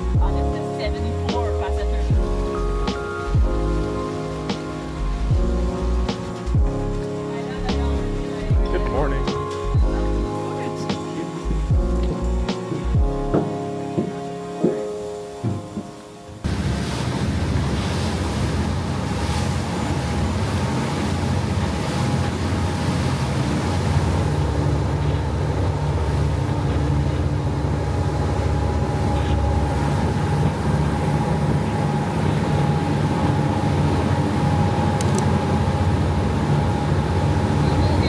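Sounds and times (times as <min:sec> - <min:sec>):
boat engine running: 0:00.0 - 0:38.0
water rushing past hull: 0:00.0 - 0:38.0.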